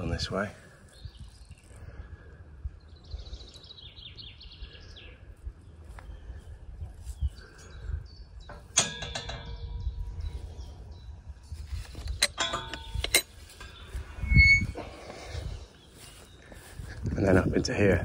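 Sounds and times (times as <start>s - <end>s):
wind rumble on microphone: 0.9s - 18.0s.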